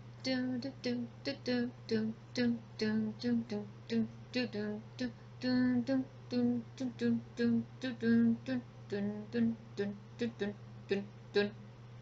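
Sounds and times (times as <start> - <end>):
woman humming: 0.3 - 11.6.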